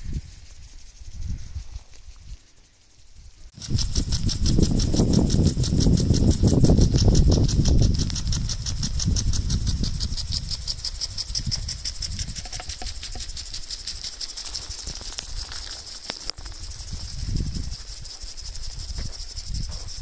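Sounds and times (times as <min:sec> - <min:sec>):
hiss of water spray: 0:03.5 - 0:20.0
impact sprinkler ticking: 0:03.5 - 0:20.0.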